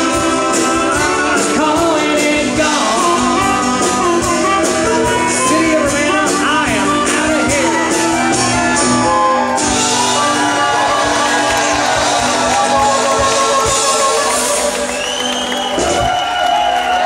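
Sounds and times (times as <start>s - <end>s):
acoustic and electric guitars: 0.0s - 16.1s
drums: 0.0s - 17.0s.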